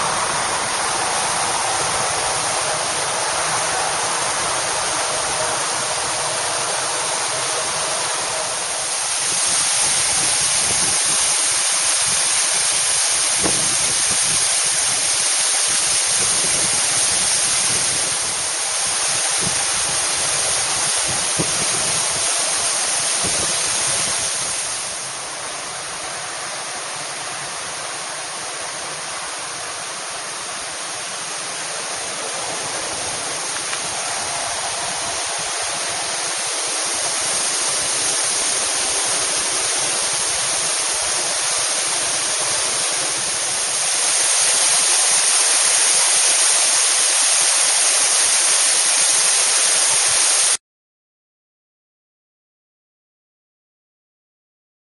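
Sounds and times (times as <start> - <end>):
waterfall rushing down rocks: 0.0 - 50.6.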